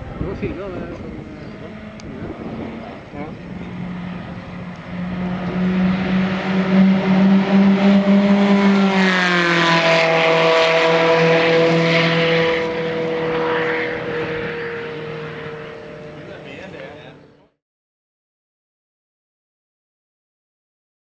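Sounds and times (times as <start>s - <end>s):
sports car engine passing: 0.0s - 17.6s.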